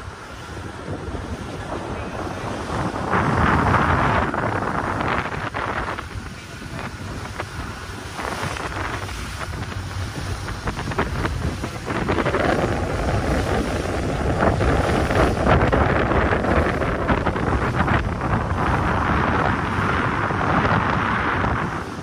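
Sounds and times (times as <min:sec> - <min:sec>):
motorboat rumble: 0:00.0 - 0:22.0
water splashing along hull: 0:00.0 - 0:22.0
wind buffeting microphone: 0:00.0 - 0:22.0.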